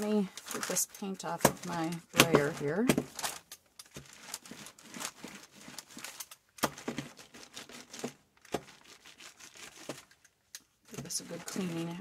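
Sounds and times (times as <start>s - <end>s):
brayer rolling over crinkling paper: 0.0s - 10.2s, 10.8s - 12.0s.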